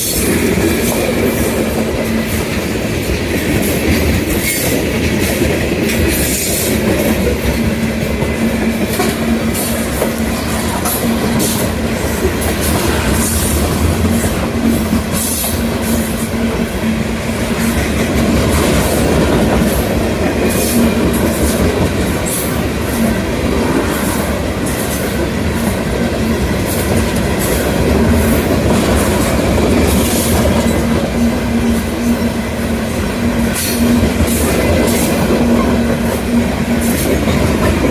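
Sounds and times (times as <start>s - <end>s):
freight train rumbling: 0.0s - 37.9s.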